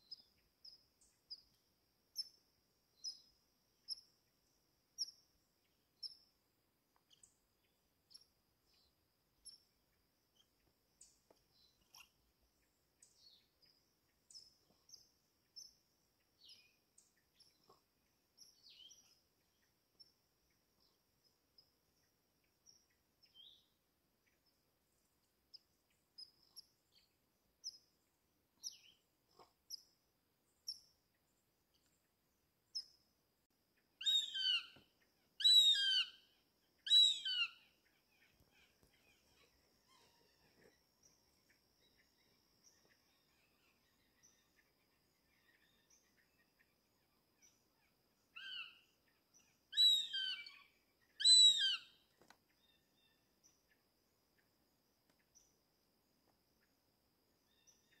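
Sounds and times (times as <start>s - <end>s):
wild birds chirping: 0.1s - 58.0s.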